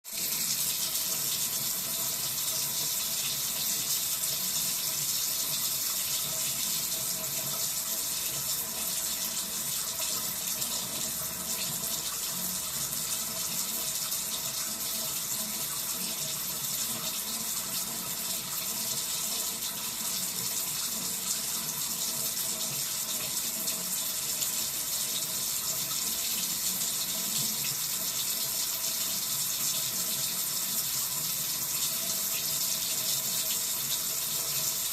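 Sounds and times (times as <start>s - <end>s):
water running from a tap: 0.0s - 34.9s.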